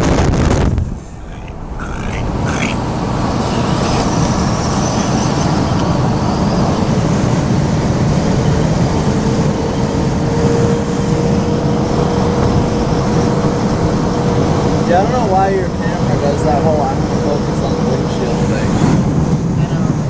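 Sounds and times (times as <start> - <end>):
car road and wind noise: 0.0 - 20.0.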